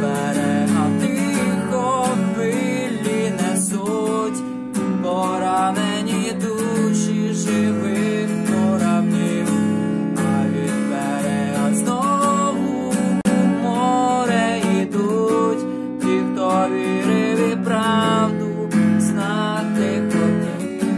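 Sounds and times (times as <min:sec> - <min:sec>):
acoustic guitar strumming: 0:00.0 - 0:20.9
man singing: 0:00.0 - 0:20.9.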